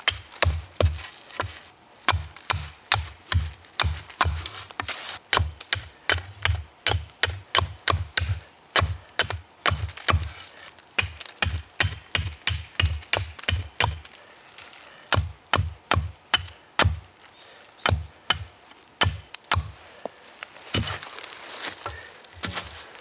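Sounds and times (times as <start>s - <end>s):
wood chopping strikes: 0.0s - 10.4s, 11.0s - 14.2s, 15.1s - 17.1s, 17.8s - 19.8s, 20.7s - 21.1s, 21.8s - 22.8s.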